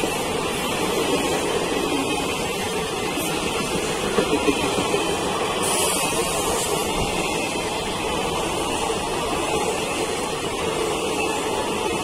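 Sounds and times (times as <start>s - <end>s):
train wheels running on rails: 0.0s - 12.0s.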